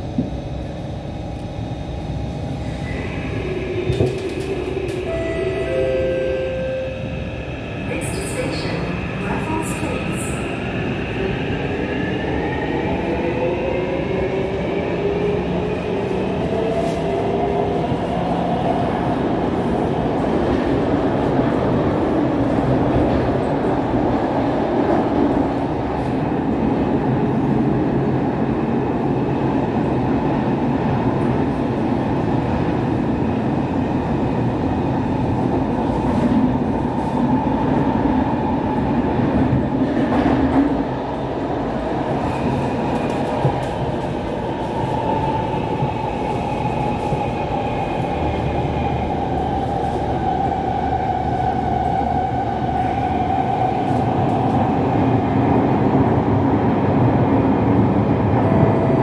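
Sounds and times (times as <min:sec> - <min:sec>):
train wheels running on rails: 0:00.0 - 0:06.0, 0:07.4 - 0:59.0.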